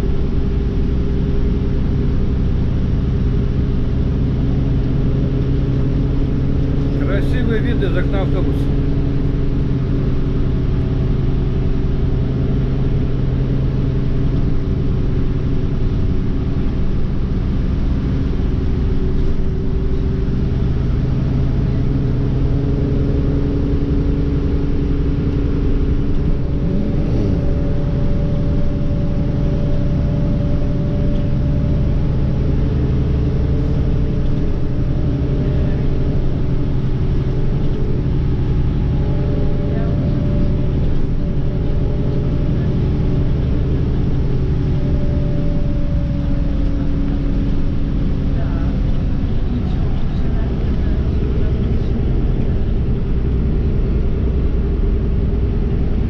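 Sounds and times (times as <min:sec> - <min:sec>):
bus engine drone: 0:00.0 - 0:56.0
road and tyre rumble: 0:00.0 - 0:56.0.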